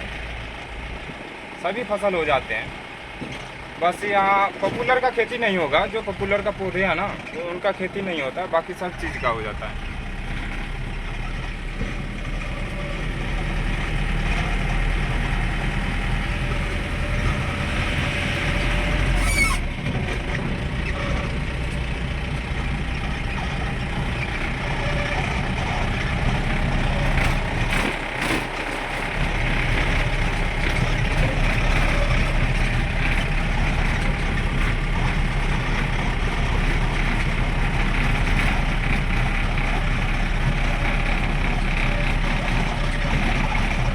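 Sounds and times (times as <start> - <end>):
road noise: 0.0 - 43.9
vehicle engine hum: 0.0 - 43.9.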